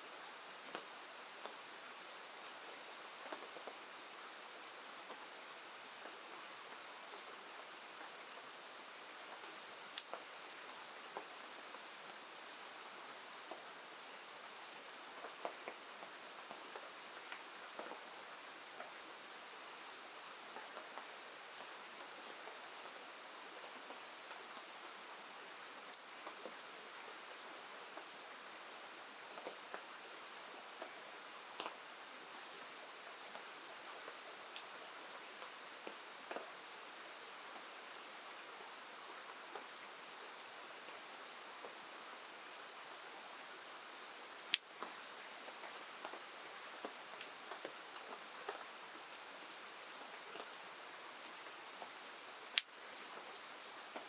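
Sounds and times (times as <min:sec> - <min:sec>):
rain falling: 0:00.0 - 0:54.0
sharp ticks of raindrops: 0:00.0 - 0:54.0.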